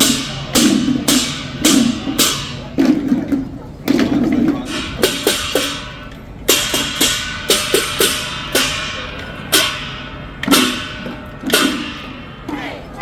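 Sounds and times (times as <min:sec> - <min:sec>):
cymbals clashing: 0:00.0 - 0:13.0
drum beats: 0:00.0 - 0:13.0.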